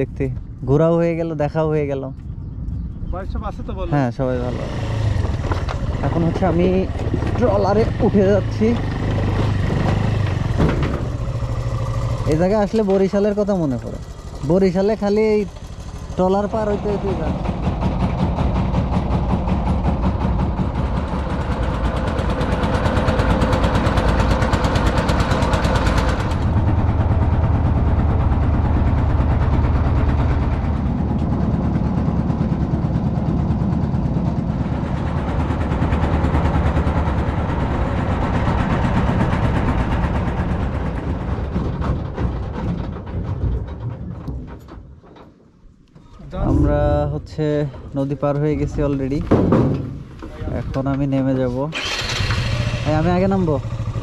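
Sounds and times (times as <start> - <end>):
boat diesel engine running: 0.0 - 44.2, 49.9 - 54.0.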